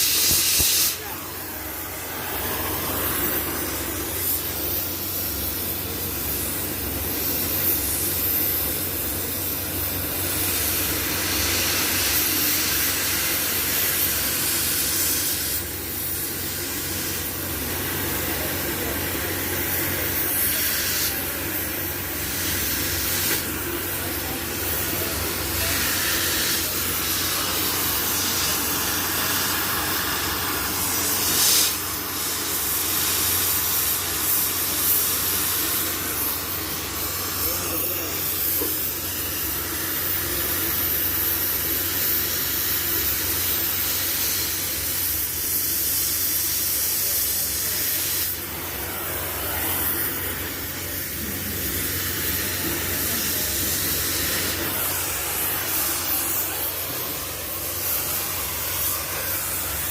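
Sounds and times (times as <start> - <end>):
welding arc hissing and crackling: 0.0 - 59.9.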